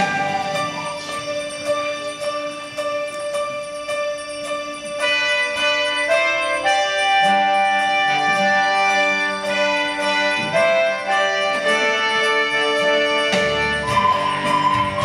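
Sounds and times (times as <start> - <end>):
children playing recorders: 0.0 - 3.1, 5.0 - 15.0
lower-pitched accompaniment: 0.0 - 15.0.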